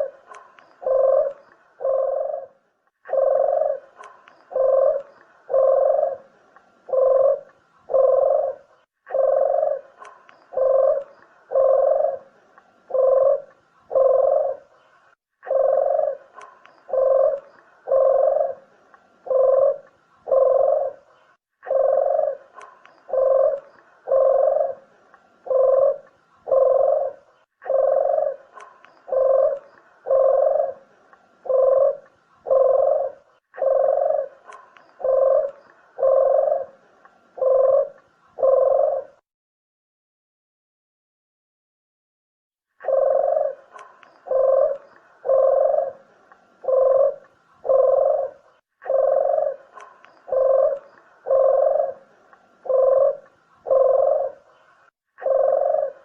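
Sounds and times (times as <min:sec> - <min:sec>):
dove cooing: 0:00.0 - 0:39.2, 0:42.8 - 0:56.0.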